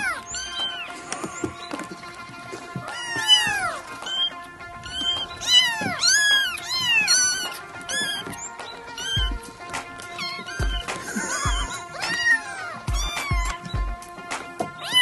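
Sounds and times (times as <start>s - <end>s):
kittens meowing: 0.0s - 14.0s, 14.6s - 15.0s
background music: 0.0s - 15.0s.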